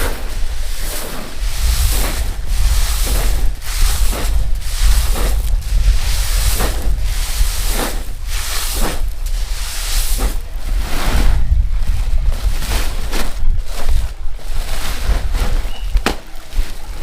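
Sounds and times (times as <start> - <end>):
rustling swish: 0.0 - 17.0
wind buffeting microphone: 0.0 - 17.0.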